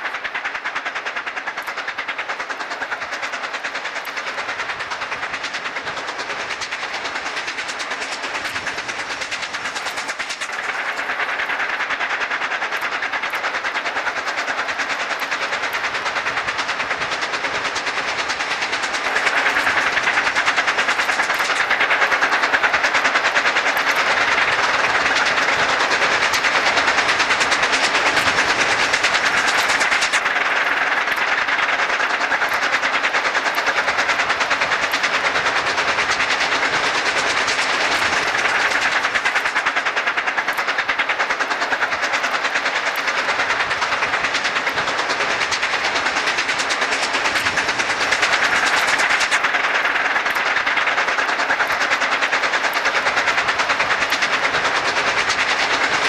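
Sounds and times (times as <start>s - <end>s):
steam locomotive exhaust beats: 0.0s - 56.0s
train running noise: 0.0s - 56.0s.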